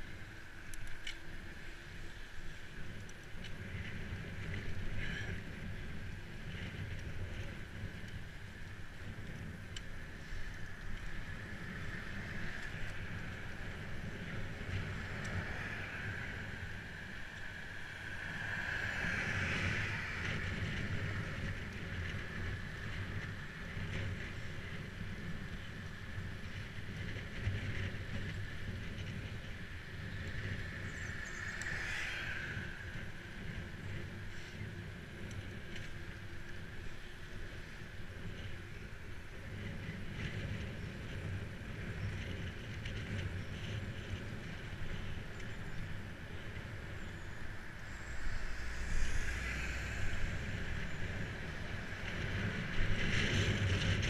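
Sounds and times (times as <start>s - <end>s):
bike tyres rolling on tarmac: 0.0s - 54.0s
wind on microphone: 0.0s - 54.0s.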